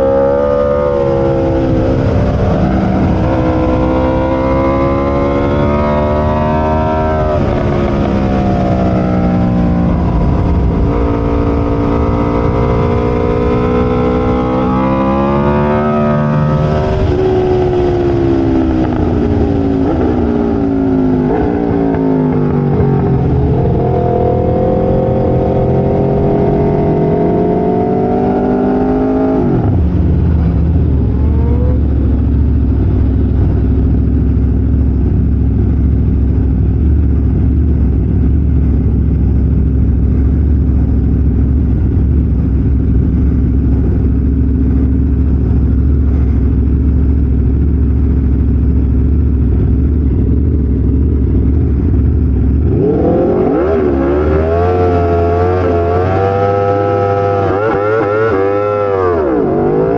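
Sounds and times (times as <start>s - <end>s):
racing motorcycle engine revving: 0.0s - 59.9s.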